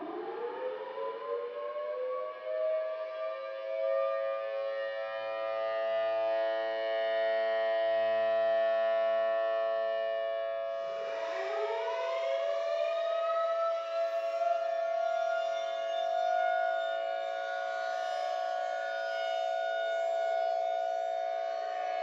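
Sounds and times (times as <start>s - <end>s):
tornado sirens wailing: 0.0s - 22.0s.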